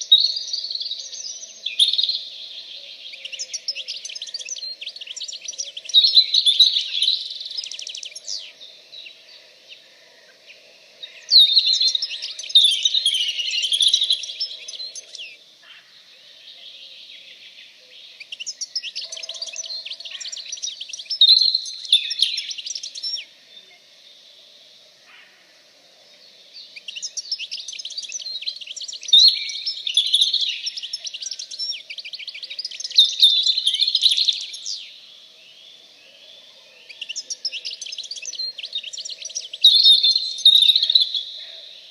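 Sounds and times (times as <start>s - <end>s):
birds twittering and chirping: 0.0s - 41.9s.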